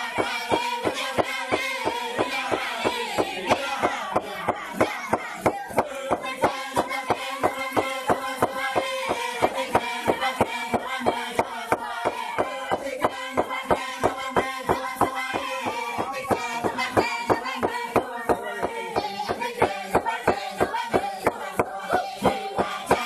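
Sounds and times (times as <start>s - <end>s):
group chanting: 0.0s - 23.0s
pounding drum beat: 0.0s - 23.0s.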